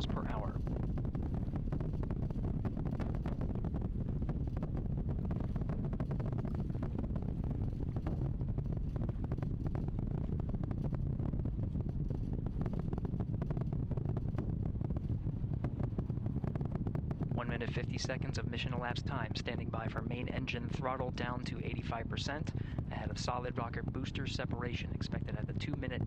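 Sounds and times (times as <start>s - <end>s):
rocket engine rumble and crackle: 0.0s - 26.0s.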